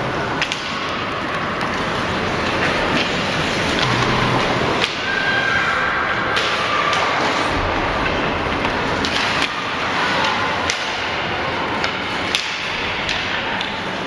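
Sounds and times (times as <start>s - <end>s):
hockey sticks clacking on puck: 0.3s - 5.2s, 6.3s - 14.0s.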